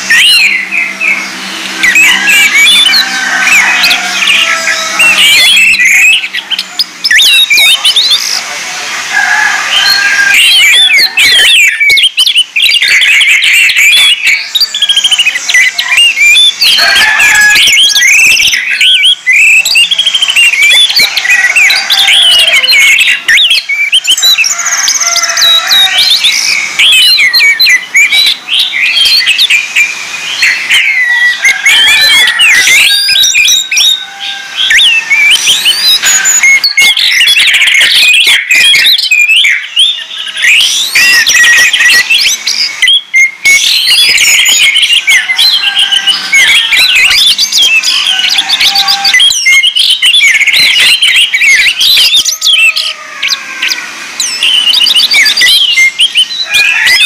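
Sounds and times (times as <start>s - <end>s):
thrush singing: 0.0s - 57.0s.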